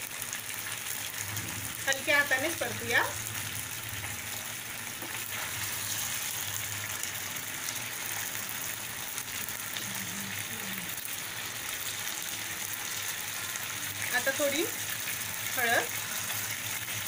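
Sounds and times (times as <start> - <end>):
clams sizzling in hot oil: 0.0 - 17.0.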